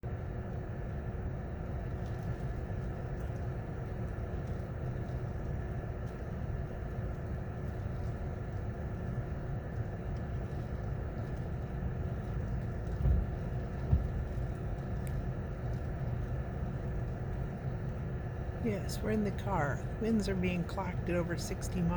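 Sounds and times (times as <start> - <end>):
strong wind buffeting a car: 0.0 - 18.6
faint constant hum: 0.0 - 21.9.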